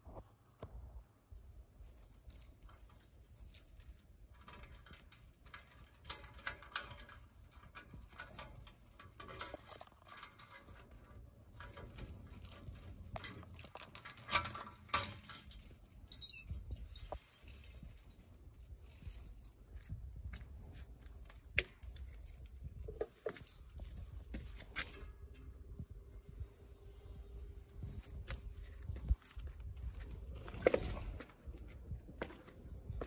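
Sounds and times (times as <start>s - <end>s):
plant stems rustling against phone: 1.6s - 33.0s.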